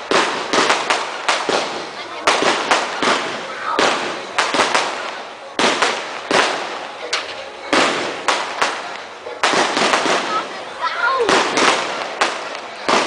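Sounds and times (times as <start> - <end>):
fireworks bangs with hiss: 0.0 - 13.0.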